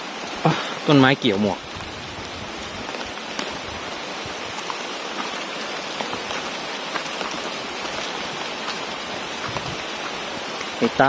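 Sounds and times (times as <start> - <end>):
rain falling on leaves: 0.0 - 11.0.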